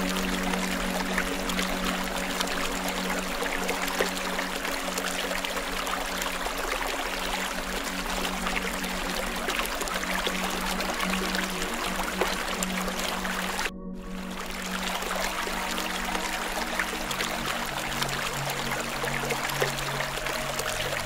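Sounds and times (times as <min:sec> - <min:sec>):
low held music tone: 0:00.0 - 0:21.0
trickling water: 0:00.0 - 0:21.0.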